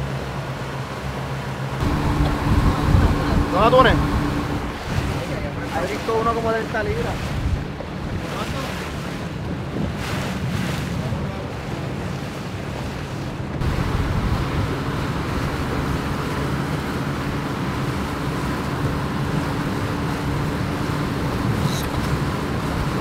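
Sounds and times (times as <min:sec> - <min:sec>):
low engine hum: 0:00.0 - 0:08.4, 0:11.6 - 0:23.0
rushing water: 0:00.0 - 0:23.0
wind buffeting microphone: 0:01.7 - 0:23.0.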